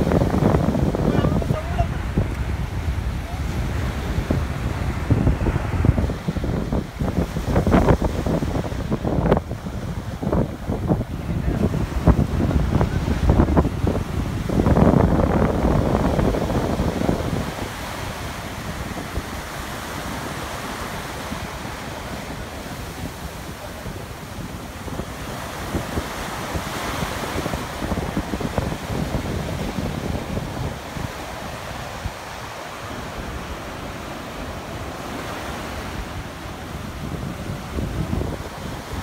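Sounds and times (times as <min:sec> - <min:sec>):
surf breaking and washing: 0:00.0 - 0:39.0
wind buffeting microphone: 0:00.0 - 0:39.0.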